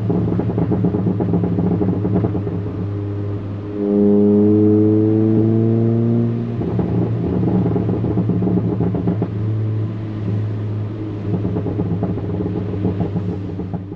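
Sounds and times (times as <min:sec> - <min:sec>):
car exhaust droning: 0:00.0 - 0:13.9
exhaust crackles and pops: 0:00.0 - 0:13.9.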